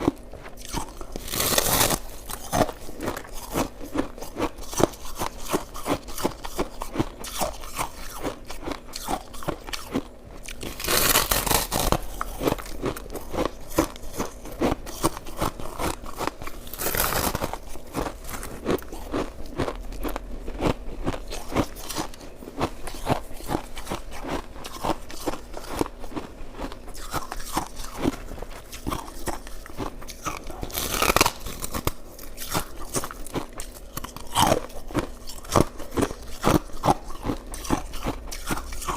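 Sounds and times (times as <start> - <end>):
chewing shaved ice: 0.0 - 38.9.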